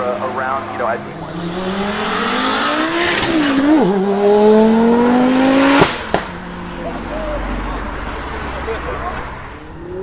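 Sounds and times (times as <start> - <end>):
car engine accelerating past: 1.1 - 10.0.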